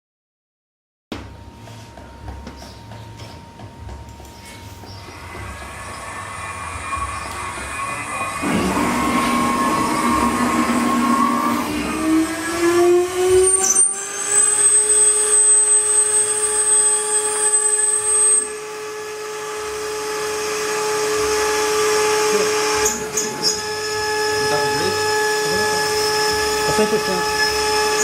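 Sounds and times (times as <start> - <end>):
router spindle whining: 4.9 - 28.0.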